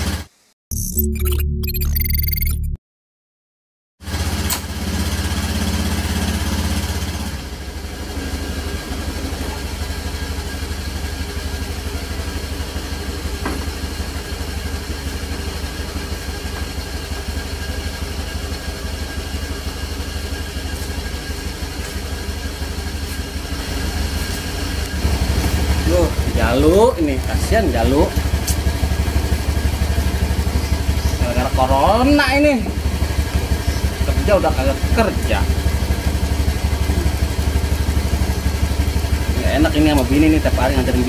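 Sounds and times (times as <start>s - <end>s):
scooter engine idling: 4.0s - 41.0s.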